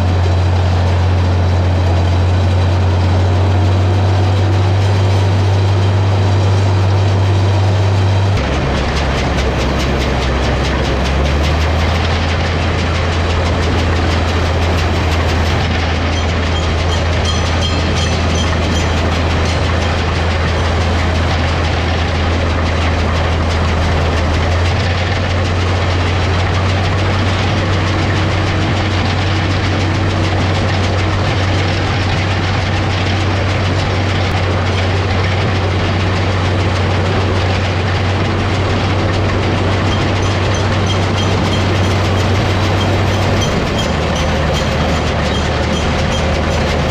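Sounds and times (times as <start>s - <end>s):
baler machinery rattling: 0.0s - 46.9s
tractor diesel engine running: 0.0s - 46.9s.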